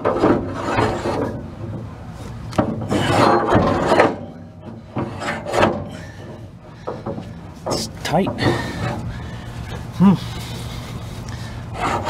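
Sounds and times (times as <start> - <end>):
steel shaft scraping and grinding: 0.0 - 1.7, 2.7 - 12.0.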